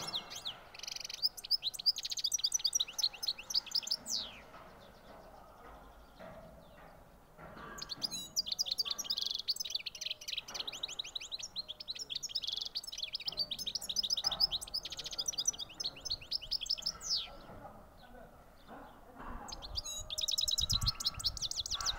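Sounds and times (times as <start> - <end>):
goldfinch twittering song: 0.0 - 17.5, 19.5 - 21.9.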